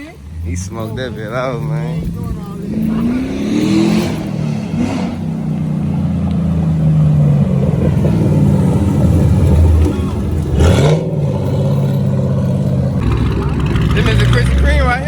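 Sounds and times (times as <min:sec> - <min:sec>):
engine rev blip: 0:00.0 - 0:15.0
vehicle engine running hard: 0:00.0 - 0:15.0.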